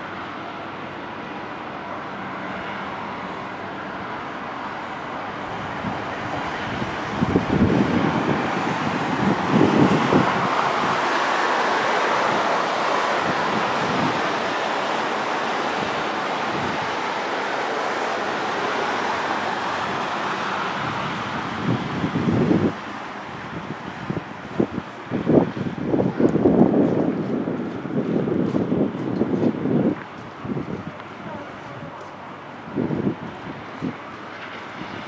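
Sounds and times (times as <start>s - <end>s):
steady rushing outdoor noise: 0.0s - 35.0s
wind buffeting microphone: 1.5s - 35.0s.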